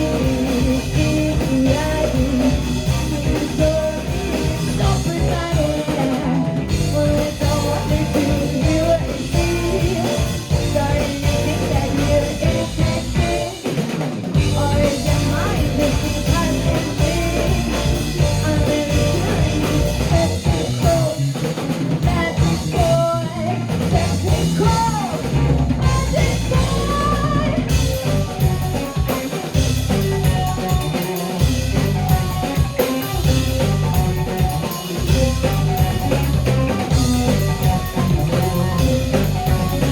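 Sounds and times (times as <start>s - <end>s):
person singing: 0.0s - 13.8s, 14.4s - 21.4s, 22.0s - 39.9s
bass guitar: 0.0s - 39.9s
drum kit: 0.0s - 39.9s
guitar: 0.0s - 39.9s.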